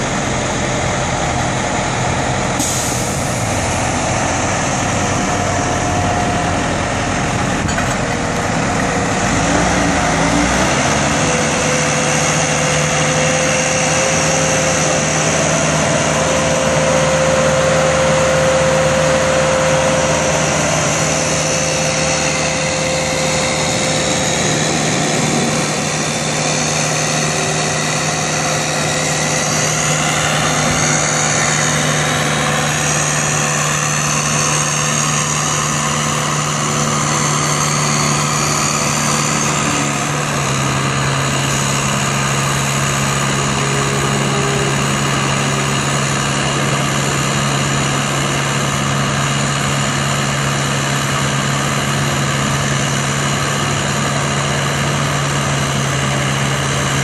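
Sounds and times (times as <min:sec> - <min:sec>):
diesel engine running under load: 0:00.0 - 0:57.0
high hydraulic whine: 0:00.0 - 0:57.0.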